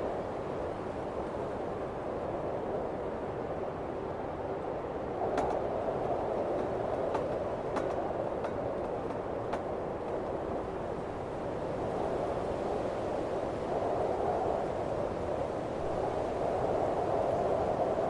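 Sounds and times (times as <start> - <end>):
blizzard wind rushing: 0.0 - 18.0.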